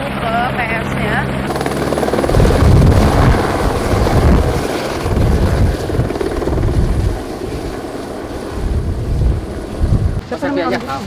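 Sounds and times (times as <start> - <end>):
helicopter rotor beat: 0.0 - 11.0.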